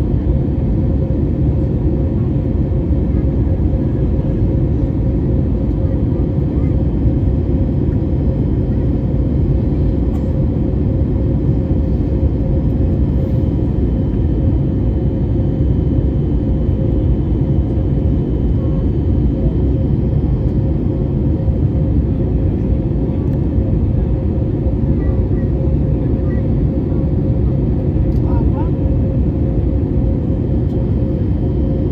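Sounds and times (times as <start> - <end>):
constant hum tone: 0.0 - 31.9
jet engine cabin rumble: 0.0 - 31.9.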